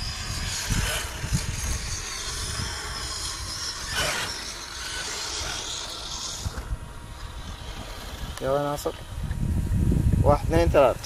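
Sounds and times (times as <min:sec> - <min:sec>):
electric motors whining: 0:00.0 - 0:10.2
wind rumble on microphone: 0:00.0 - 0:11.0.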